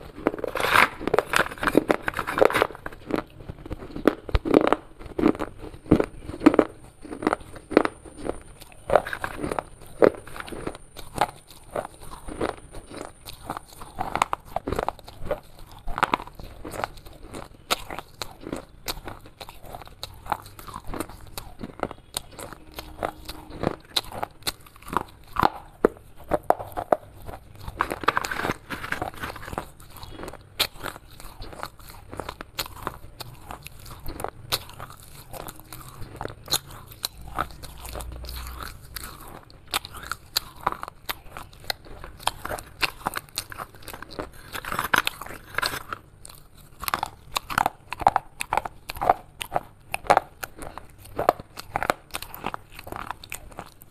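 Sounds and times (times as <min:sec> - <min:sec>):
person chewing baked clay: 0:00.0 - 0:53.9.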